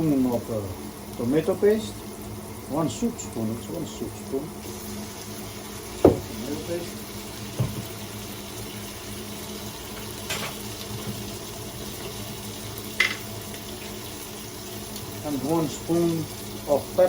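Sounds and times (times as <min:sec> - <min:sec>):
onion and garlic sizzling in oil: 0:00.0 - 0:17.0.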